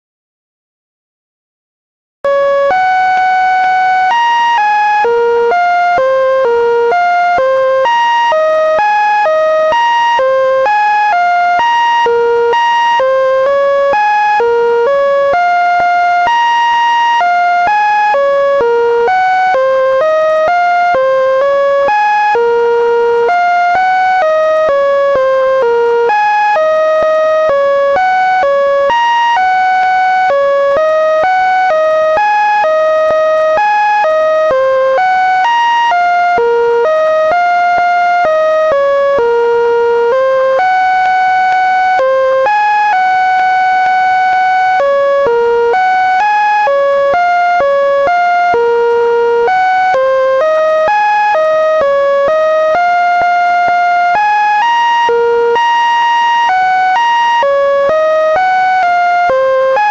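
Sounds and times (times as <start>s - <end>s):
synthesized electronic tones: 2.3s - 59.9s.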